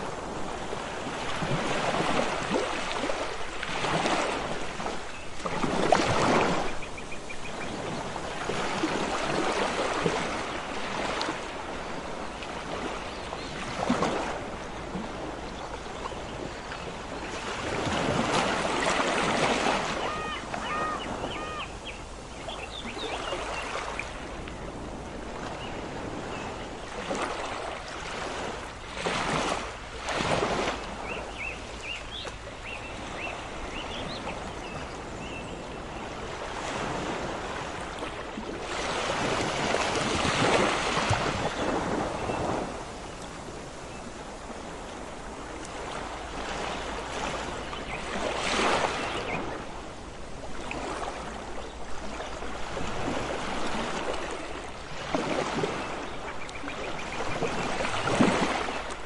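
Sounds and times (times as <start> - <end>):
sea waves washing onto beach: 0.0 - 59.0.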